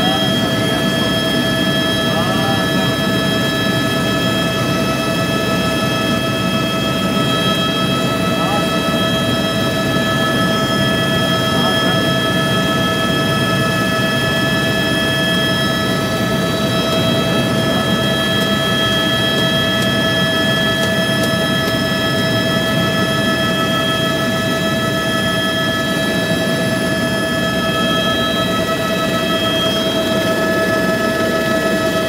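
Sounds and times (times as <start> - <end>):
helicopter engine and rotor drone: 0.0 - 32.0
steady whine: 0.0 - 32.0.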